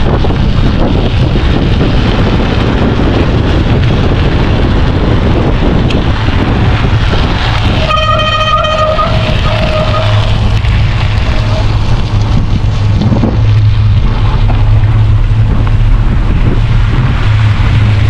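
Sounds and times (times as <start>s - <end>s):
low rumble: 0.0s - 18.0s
wind buffeting microphone: 0.0s - 18.0s.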